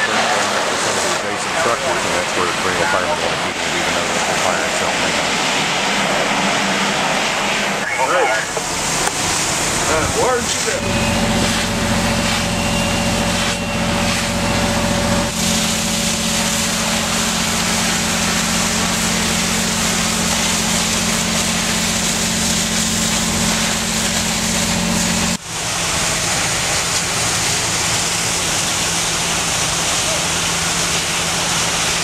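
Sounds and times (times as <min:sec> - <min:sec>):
fire engine pump running: 0:00.0 - 0:32.0
hose water hissing and splashing: 0:00.0 - 0:32.0.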